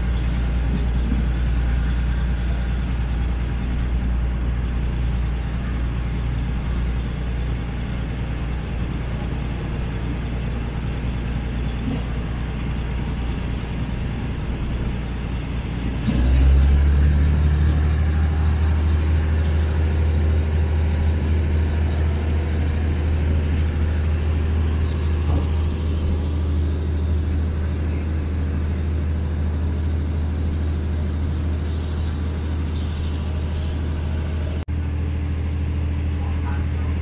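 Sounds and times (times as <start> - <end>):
diesel train rumbling: 0.0 - 37.0.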